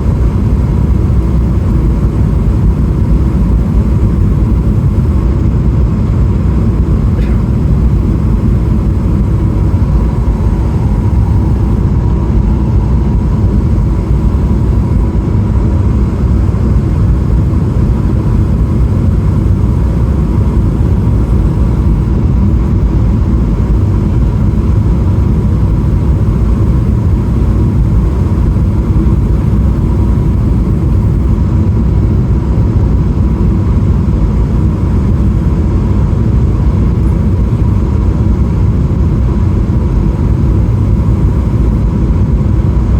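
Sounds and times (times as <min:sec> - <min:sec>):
airplane cabin engine rumble: 0:00.0 - 0:42.9
thin steady hum: 0:00.0 - 0:42.9.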